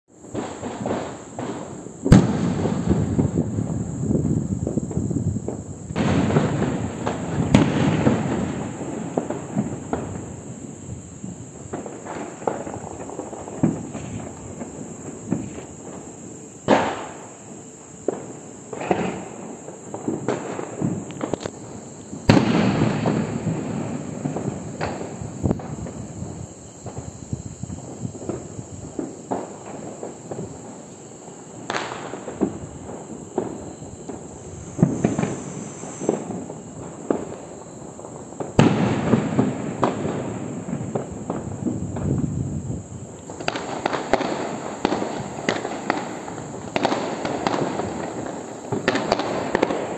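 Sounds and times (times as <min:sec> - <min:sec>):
fireworks bangs and crackling: 0:00.1 - 0:49.9.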